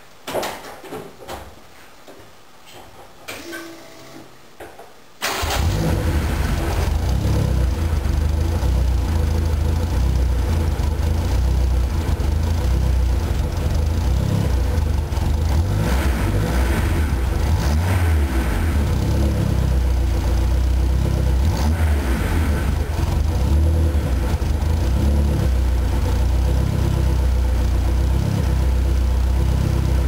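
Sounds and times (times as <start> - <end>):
car engine starting: 5.2 - 30.0
deep loud exhaust rumble: 5.6 - 30.0.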